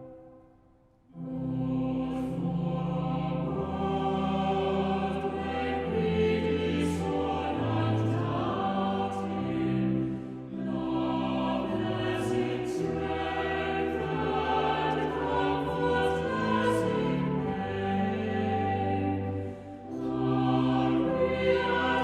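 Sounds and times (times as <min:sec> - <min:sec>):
choir singing a hymn: 0:01.1 - 0:22.0.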